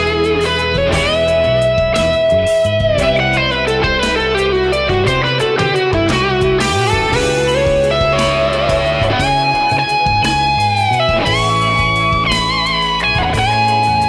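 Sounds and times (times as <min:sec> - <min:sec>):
electric guitar solo: 0:00.0 - 0:14.0.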